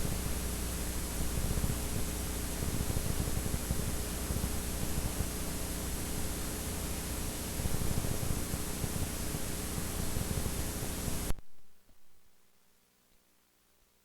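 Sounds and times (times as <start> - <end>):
tape static hiss: 0.0 - 14.0.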